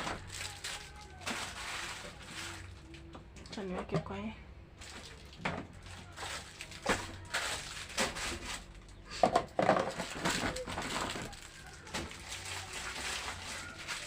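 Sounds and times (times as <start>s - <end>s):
plastic bags crinkling: 0.0s - 3.2s, 4.8s - 14.0s.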